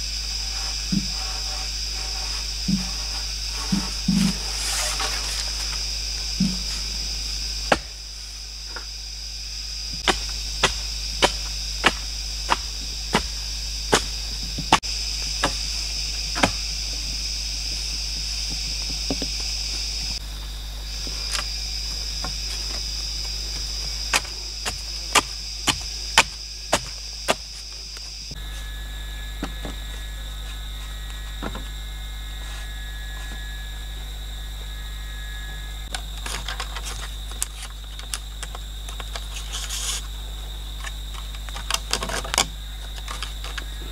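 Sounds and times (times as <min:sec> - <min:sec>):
forest insects droning: 0:00.0 - 0:43.9.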